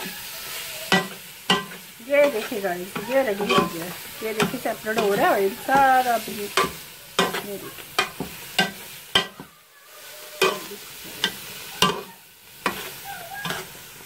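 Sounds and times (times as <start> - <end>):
faint sizzle of frying: 0.0 - 14.0
spoon scraping metal pot: 0.8 - 9.4, 10.4 - 13.8.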